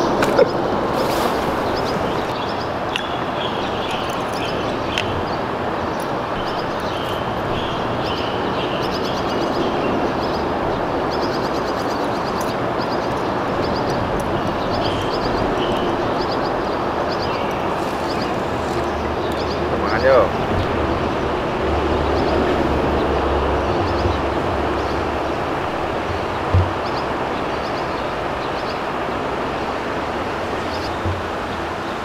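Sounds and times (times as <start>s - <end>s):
small birds chirping: 0.0s - 32.0s
steady rushing noise: 0.0s - 32.0s.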